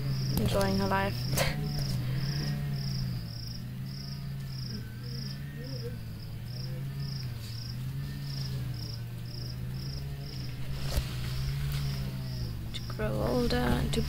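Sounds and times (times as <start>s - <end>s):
cricket chirping: 0.0s - 14.0s
steady low hum: 0.0s - 14.0s.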